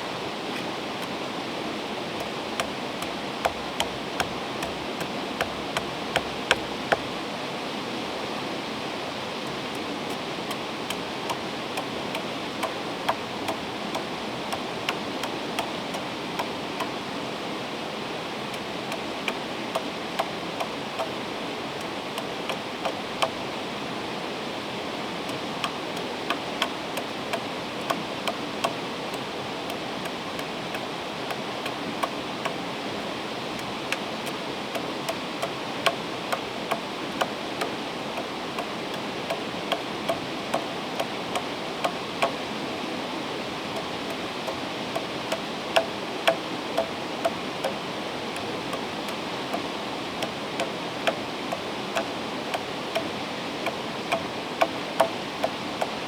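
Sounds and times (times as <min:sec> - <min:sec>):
flowing river water: 0:00.0 - 0:56.0.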